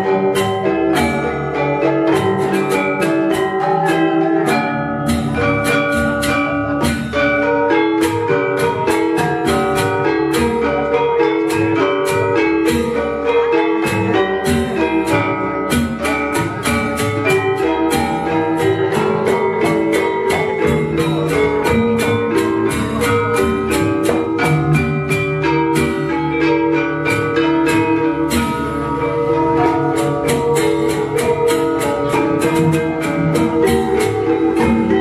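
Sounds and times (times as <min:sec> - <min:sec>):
metallophone ensemble ringing notes: 0:00.0 - 0:35.0.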